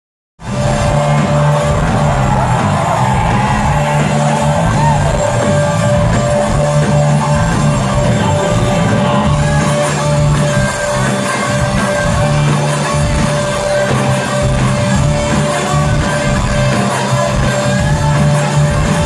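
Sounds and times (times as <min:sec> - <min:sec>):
audience shouting: 0:00.4 - 0:19.0
live rock band playing: 0:00.4 - 0:19.0.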